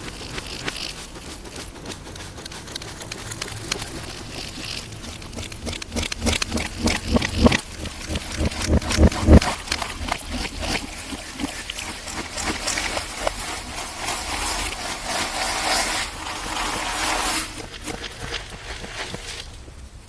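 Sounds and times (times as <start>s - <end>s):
slime squishing and crackling: 0.0s - 19.5s.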